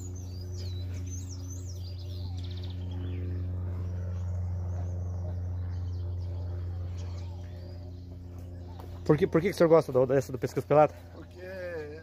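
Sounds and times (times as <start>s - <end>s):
bird trill: 0.0s - 9.9s
small birds chirping: 0.0s - 12.0s
steady low hum: 0.0s - 12.0s.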